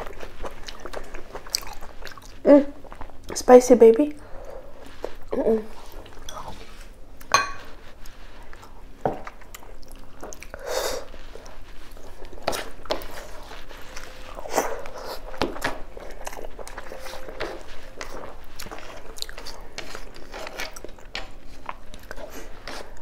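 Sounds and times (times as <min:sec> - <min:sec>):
person chewing: 0:00.0 - 0:03.4, 0:04.3 - 0:23.0.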